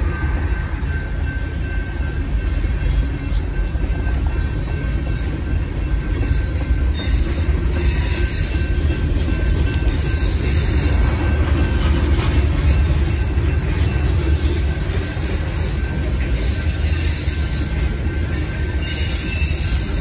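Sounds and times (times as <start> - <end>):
train clatter: 0.0 - 20.0
train wheels rumbling on rails: 0.0 - 20.0.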